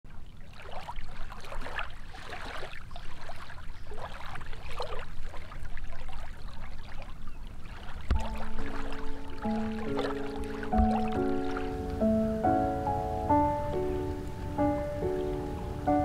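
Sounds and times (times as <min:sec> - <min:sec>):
small waves lapping: 0:00.1 - 0:16.0.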